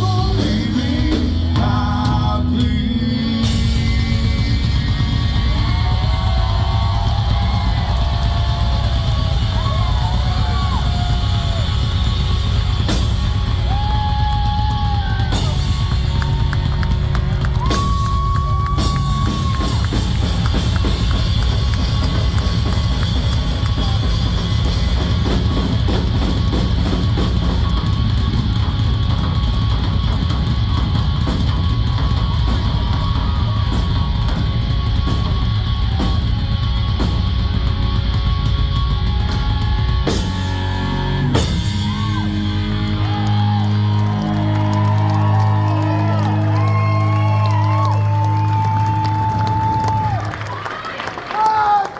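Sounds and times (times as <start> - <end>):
drum kit: 0.0 - 50.6
rock band playing live: 0.0 - 50.6.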